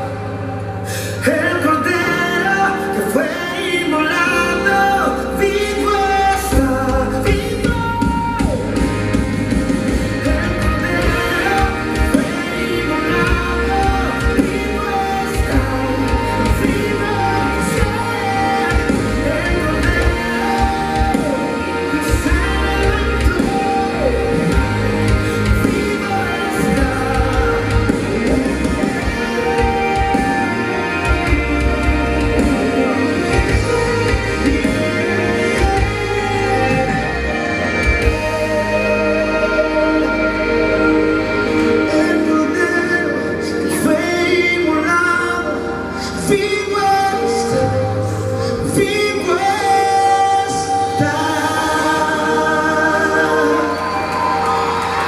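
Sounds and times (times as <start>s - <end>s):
instrumental worship band music: 0.0s - 55.0s.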